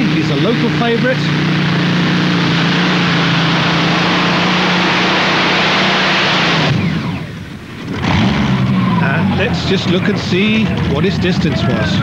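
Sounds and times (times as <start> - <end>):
loud rushing noise: 0.0 - 12.0
tractor engine drone: 0.0 - 12.0.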